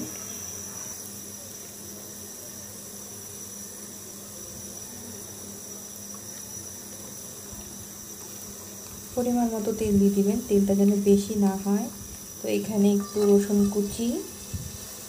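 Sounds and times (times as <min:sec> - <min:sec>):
faint high-pitched whine: 0:00.0 - 0:15.0
steady low hiss: 0:00.0 - 0:15.0.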